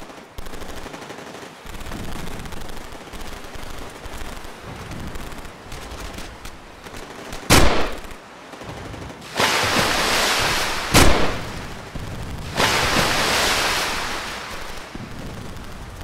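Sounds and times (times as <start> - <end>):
machine-gun fire: 0.0 - 16.0
steady rushing noise: 0.0 - 16.0.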